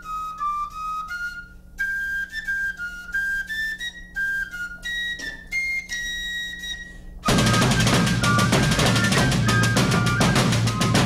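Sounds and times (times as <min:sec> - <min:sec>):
wooden fife melody: 0:00.0 - 0:11.0.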